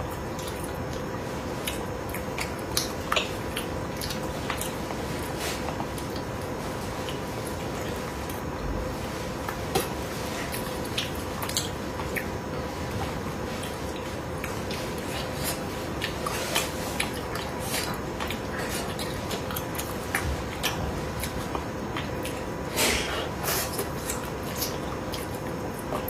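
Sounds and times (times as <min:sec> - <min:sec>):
faint steady hum: 0:00.0 - 0:26.0
wet chewing sounds: 0:00.0 - 0:26.0.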